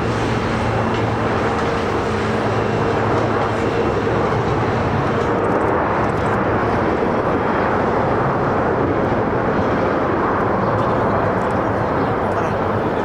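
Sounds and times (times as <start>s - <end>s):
jet airliner engines: 0.0s - 13.0s.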